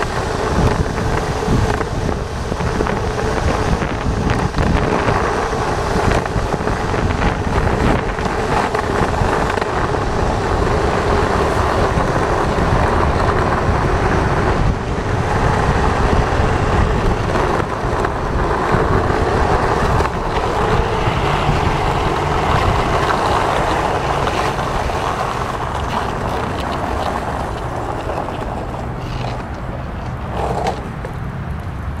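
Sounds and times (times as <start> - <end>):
skateboard wheels rolling on asphalt: 0.0 - 32.0
wind on microphone: 0.0 - 32.0.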